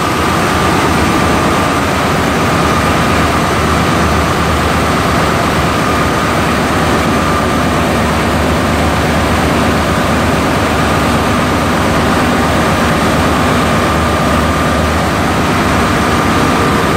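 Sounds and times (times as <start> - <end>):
compressor running with high tone: 0.0 - 16.9.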